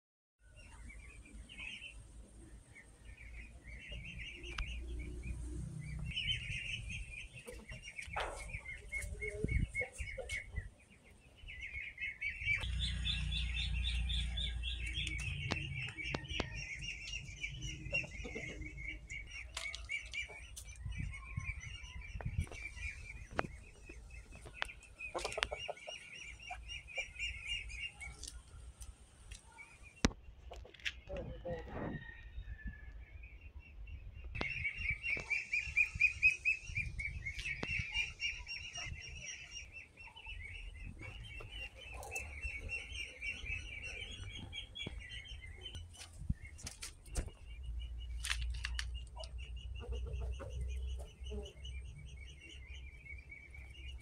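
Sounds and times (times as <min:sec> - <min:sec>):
small birds chirping rapidly: 0:00.4 - 0:32.4, 0:33.2 - 0:54.0.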